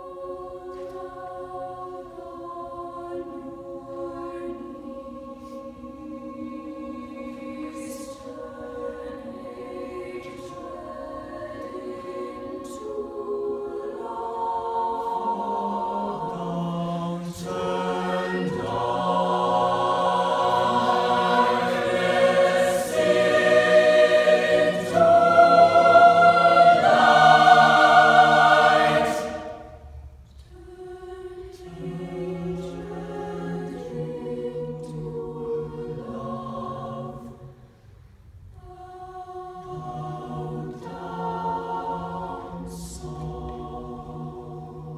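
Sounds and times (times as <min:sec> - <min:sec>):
choir singing a cappella: 0:00.0 - 0:44.9.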